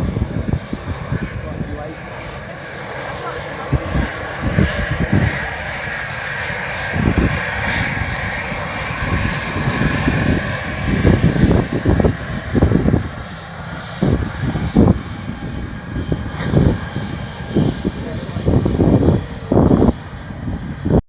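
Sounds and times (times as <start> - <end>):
airliner engine rushing: 0.0 - 21.0
low rumbles: 0.0 - 21.0.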